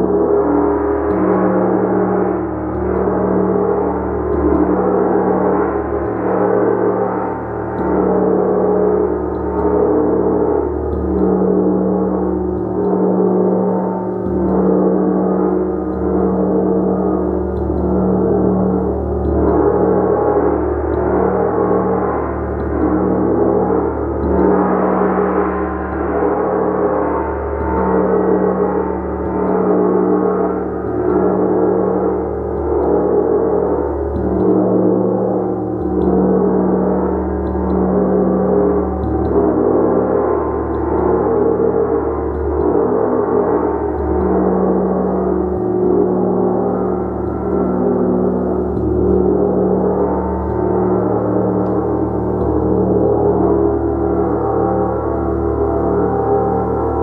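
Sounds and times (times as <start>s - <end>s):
gong played with a mallet: 0.0s - 57.0s.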